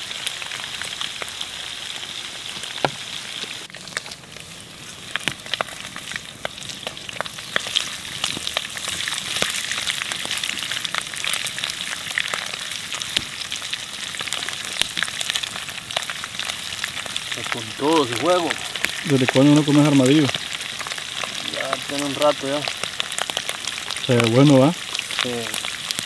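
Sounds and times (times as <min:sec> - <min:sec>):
pork rinds sizzling in fat: 0:00.0 - 0:26.0
fat popping and spattering: 0:03.7 - 0:26.0.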